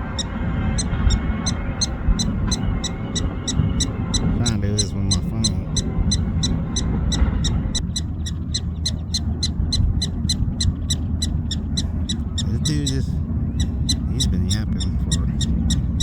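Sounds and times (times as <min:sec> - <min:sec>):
prairie dogs chirping: 0:00.0 - 0:16.0.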